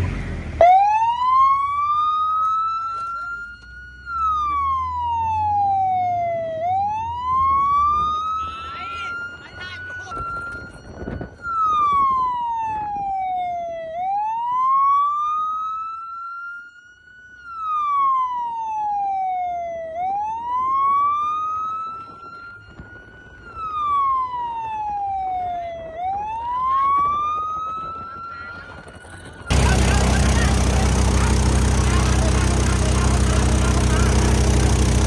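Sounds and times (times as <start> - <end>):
emergency vehicle siren wailing: 0.0 - 35.0.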